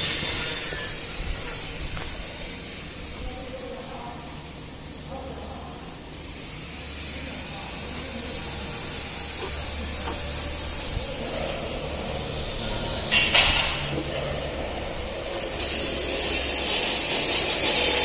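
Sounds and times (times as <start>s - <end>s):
steady hissing noise: 0.0s - 18.0s.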